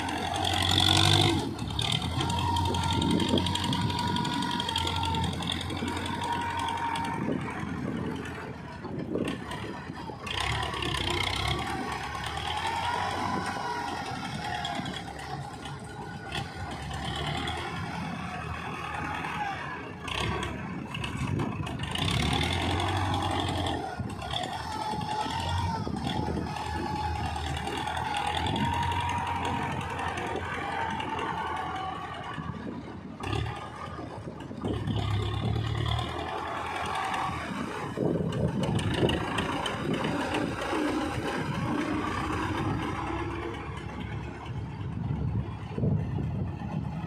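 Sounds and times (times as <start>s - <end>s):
tractor engine revving: 0.0s - 47.0s.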